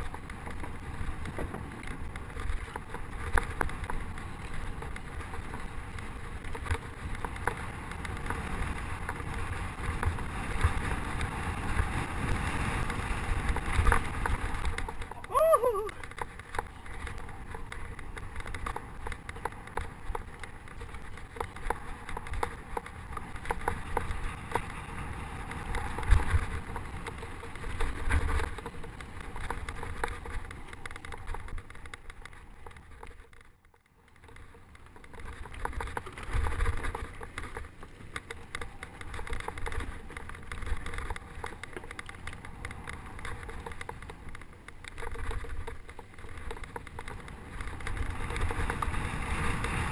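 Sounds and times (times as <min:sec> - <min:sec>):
bike rattling over dirt trail: 0:00.0 - 0:49.9.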